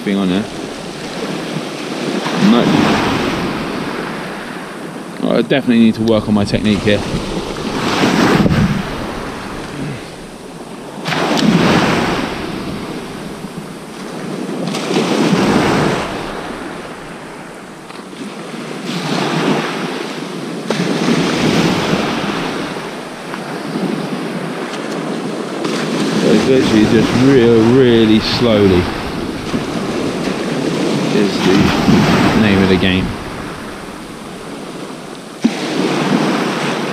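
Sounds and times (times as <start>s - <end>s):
sea waves breaking on beach: 0.0s - 36.9s.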